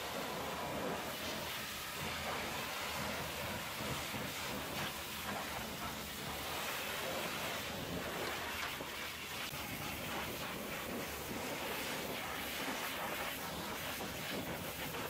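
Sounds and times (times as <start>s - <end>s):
pressure washer jet hissing: 0.0s - 15.0s.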